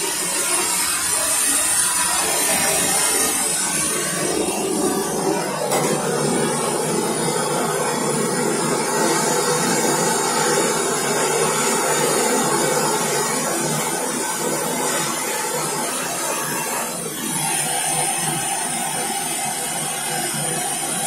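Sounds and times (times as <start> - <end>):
gas torch flame hissing: 0.0 - 21.0.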